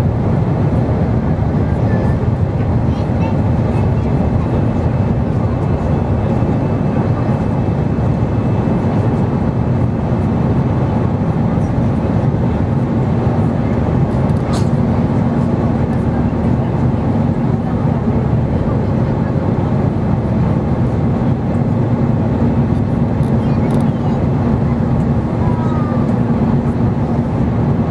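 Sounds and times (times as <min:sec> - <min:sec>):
airplane cabin engine roar: 0:00.0 - 0:27.9.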